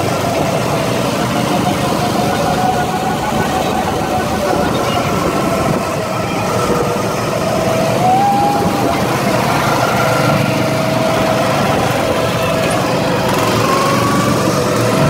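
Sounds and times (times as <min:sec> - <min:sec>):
go-kart engines running: 0:00.0 - 0:15.0.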